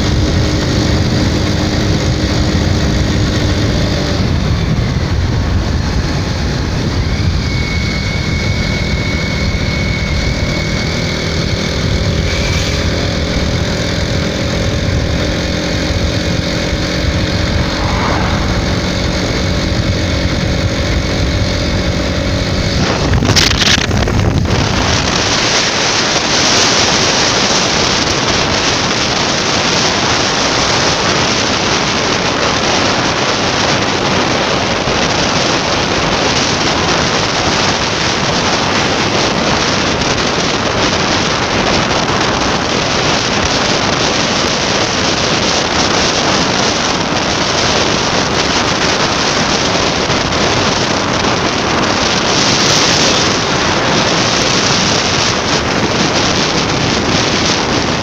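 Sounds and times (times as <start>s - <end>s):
motorcycle engine and road noise: 0.0s - 58.0s
wind rushing on microphone: 0.0s - 58.0s.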